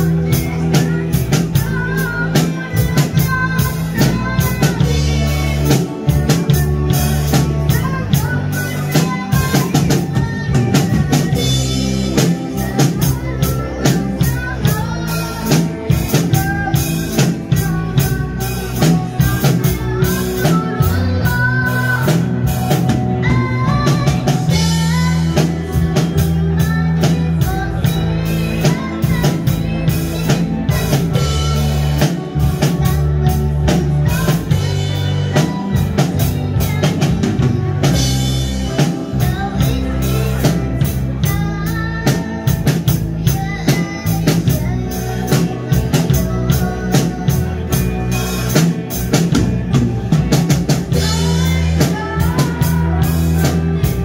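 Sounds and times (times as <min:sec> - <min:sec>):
bass guitar: 0:00.0 - 0:54.0
drum kit beat: 0:00.0 - 0:54.0.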